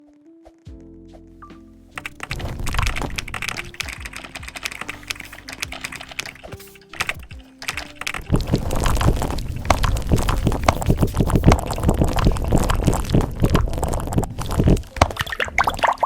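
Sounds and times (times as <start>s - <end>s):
fast typing on mechanical keyboard: 2.0s - 16.0s.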